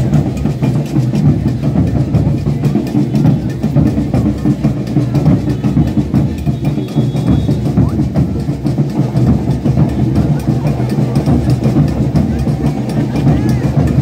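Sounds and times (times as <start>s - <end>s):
drum ensemble playing: 0.0s - 14.0s.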